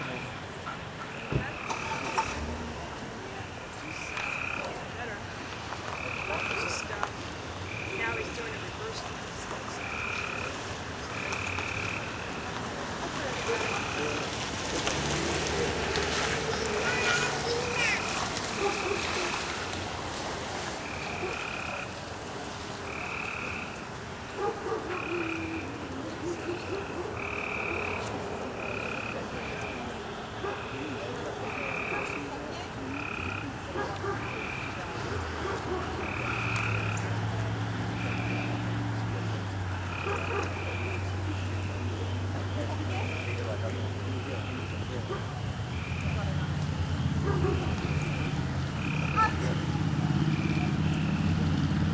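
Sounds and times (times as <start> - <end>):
outdoor background noise: 0.0 - 51.9.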